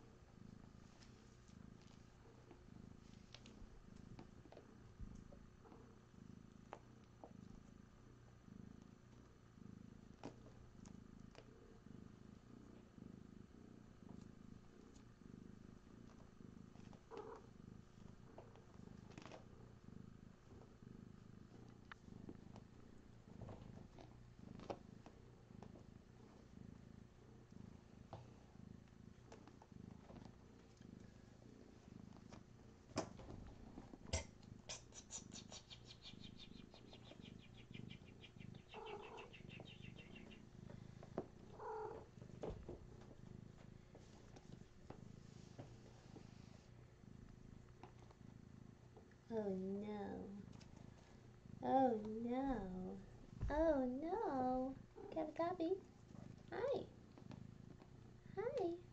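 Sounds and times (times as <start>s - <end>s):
cat purring: 0.0s - 58.9s.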